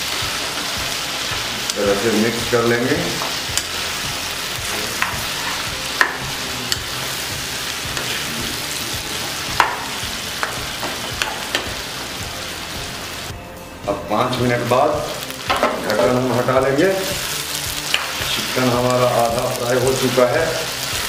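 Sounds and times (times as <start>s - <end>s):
chicken sizzling in oil: 0.0s - 13.4s, 14.0s - 21.0s.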